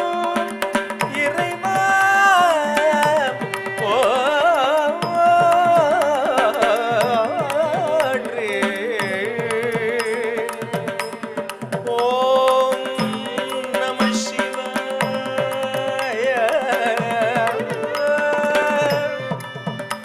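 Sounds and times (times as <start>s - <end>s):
person singing: 0.0s - 20.0s
violin melody: 0.0s - 20.0s.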